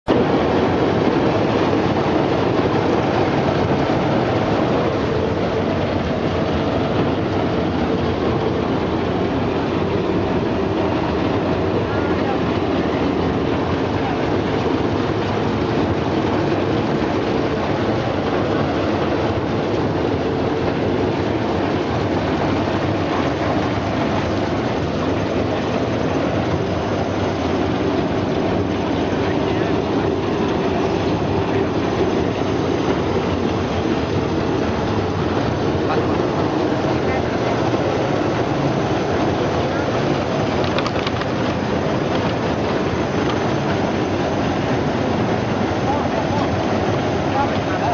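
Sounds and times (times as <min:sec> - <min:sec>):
washing machine rattle and rumble: 0:00.0 - 0:47.9.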